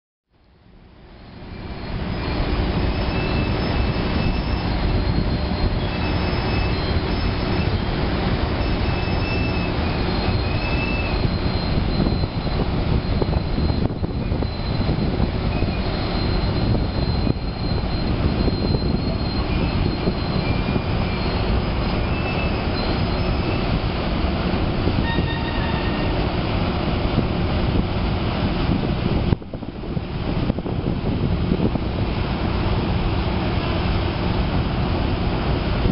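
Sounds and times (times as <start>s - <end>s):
diesel engines rumbling: 0.4s - 35.9s.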